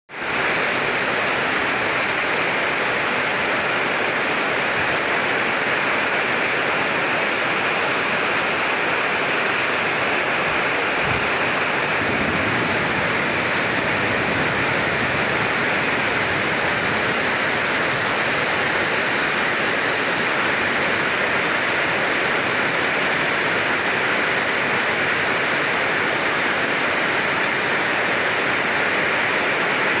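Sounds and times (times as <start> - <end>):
heavy rain pouring: 0.1 - 30.0.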